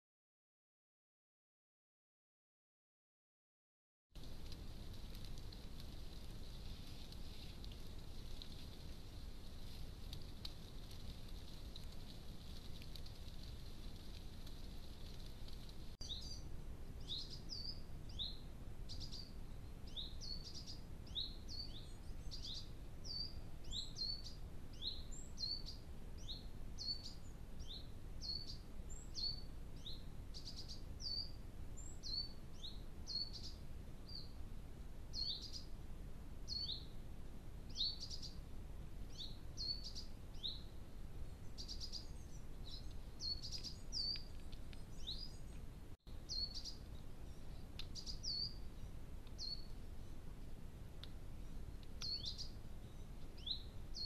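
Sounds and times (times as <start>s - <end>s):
low background rumble: 4.2s - 54.0s.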